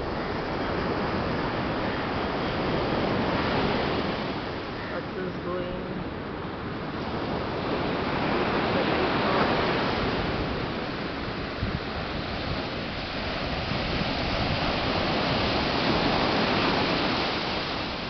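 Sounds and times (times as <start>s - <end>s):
surf breaking on a beach: 0.0s - 18.0s.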